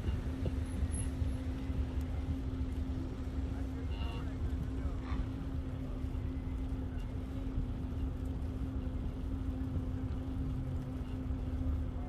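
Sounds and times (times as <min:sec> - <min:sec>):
bicycle rolling noise: 0:00.0 - 0:12.0
constant low hum: 0:00.0 - 0:12.0.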